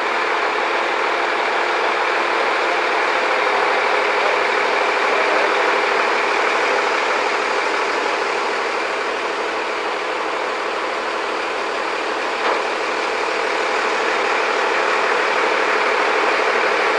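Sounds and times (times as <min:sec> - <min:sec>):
heavy machinery engine running: 0:00.0 - 0:16.9.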